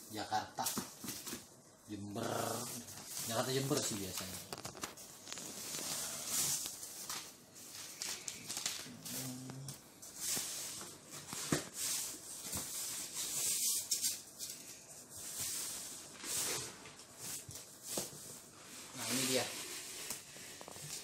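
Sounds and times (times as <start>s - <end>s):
plastic wrap and cardboard rustling: 0.0s - 21.0s.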